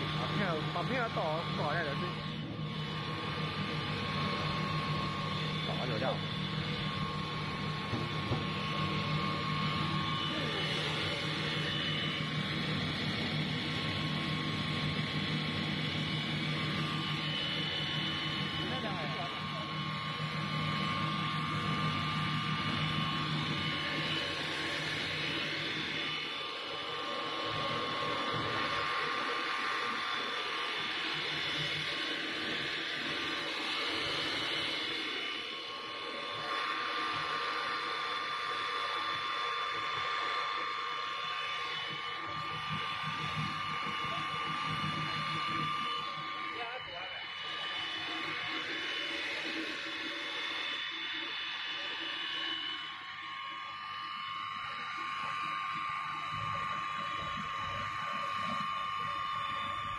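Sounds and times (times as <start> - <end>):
electric motor whine: 0.0 - 59.9
extruder machine hum: 0.0 - 59.9.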